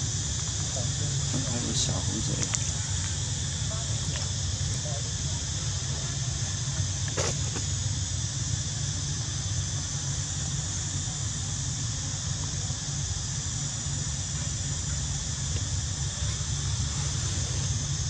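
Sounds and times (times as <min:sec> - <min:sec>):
high hiss: 0:00.0 - 0:18.0.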